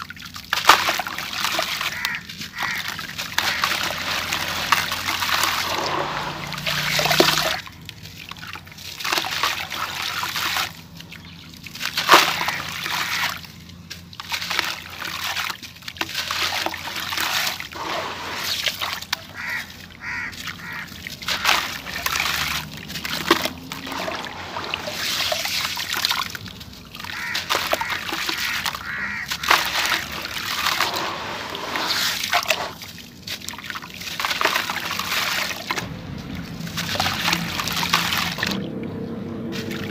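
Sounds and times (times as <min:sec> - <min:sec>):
hands sloshing water in a tub: 0:00.0 - 0:39.9.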